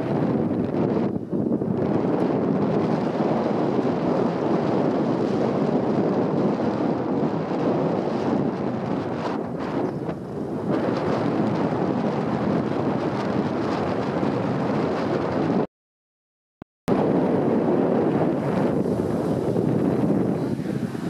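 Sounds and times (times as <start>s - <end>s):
wind buffeting microphone: 0.0s - 15.7s, 16.9s - 21.0s.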